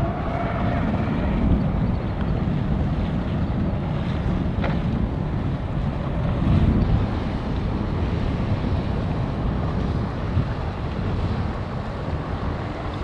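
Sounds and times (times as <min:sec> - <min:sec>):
boats and water: 0:00.0 - 0:13.0
wind buffeting microphone: 0:00.0 - 0:13.0.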